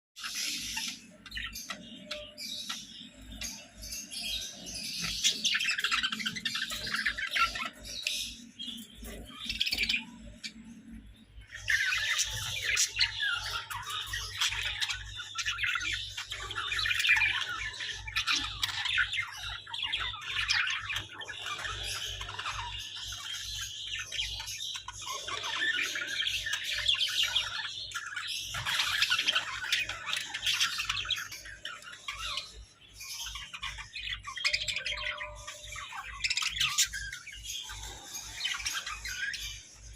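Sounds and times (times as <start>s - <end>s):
budgerigars chattering and chirping: 0.2s - 39.9s.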